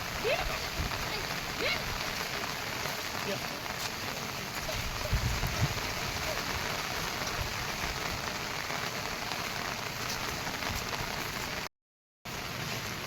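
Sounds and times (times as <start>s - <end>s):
heavy rain falling: 0.0s - 11.7s, 12.3s - 13.0s.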